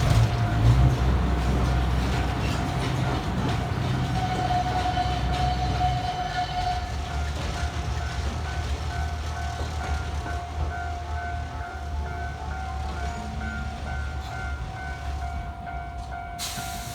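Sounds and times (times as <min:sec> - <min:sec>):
diesel locomotive rumble and whine: 0:00.0 - 0:16.9.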